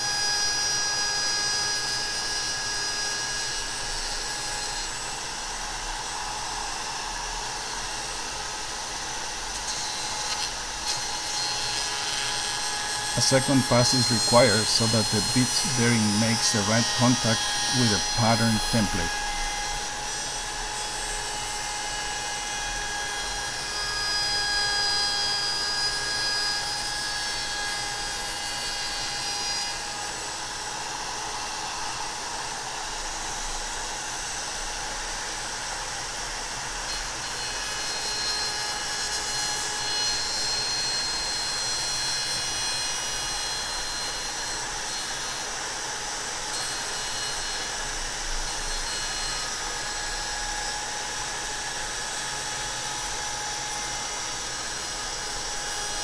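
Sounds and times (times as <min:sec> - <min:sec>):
router whining and cutting wood: 0:00.0 - 0:56.0.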